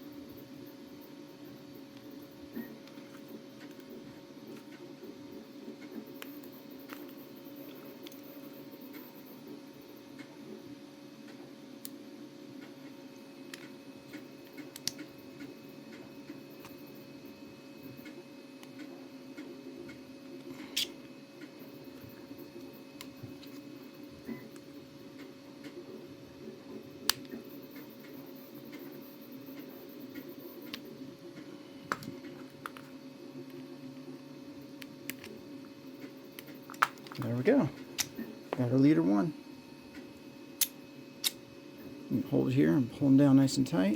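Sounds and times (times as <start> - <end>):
low background hum: 0.0 - 43.9.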